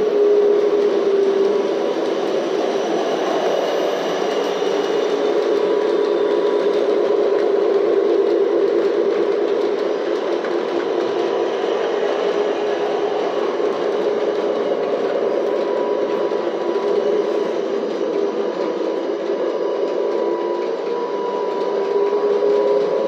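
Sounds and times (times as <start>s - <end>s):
model train wheels rolling on rails: 0.0s - 23.0s
simulated diesel engine drone: 0.0s - 23.0s.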